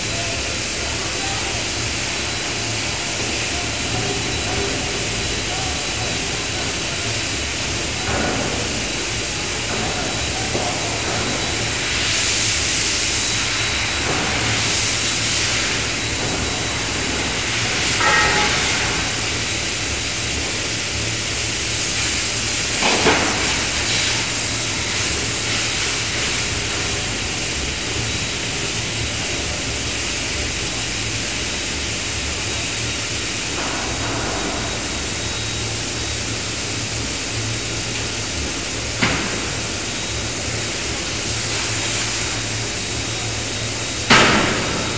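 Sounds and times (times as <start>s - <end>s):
forge machinery hiss and hum: 0.0s - 44.9s.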